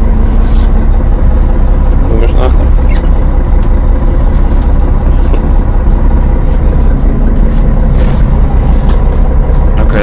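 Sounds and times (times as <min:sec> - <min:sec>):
bus engine rumble: 0:00.0 - 0:10.0.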